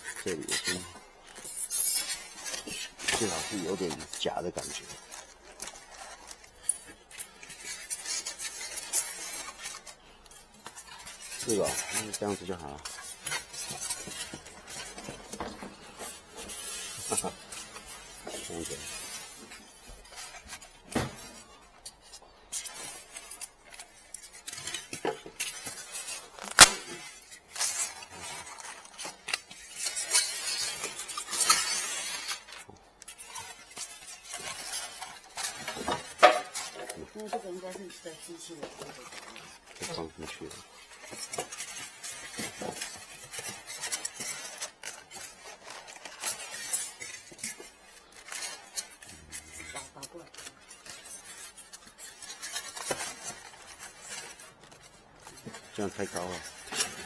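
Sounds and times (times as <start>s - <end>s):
packing material rustling and scraping: 0.0s - 57.0s.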